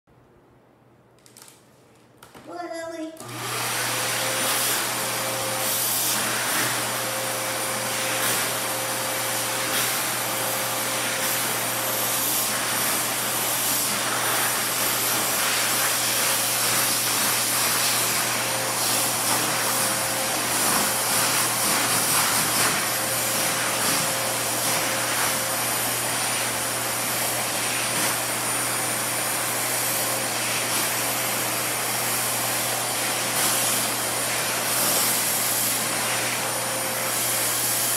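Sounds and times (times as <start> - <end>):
canister vacuum cleaner running: 2.5 - 37.9.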